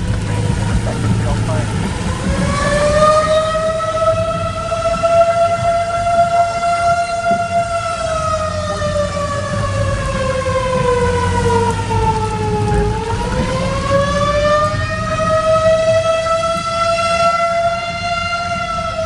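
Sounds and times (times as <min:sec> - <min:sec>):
tornado siren wailing: 0:00.0 - 0:19.0.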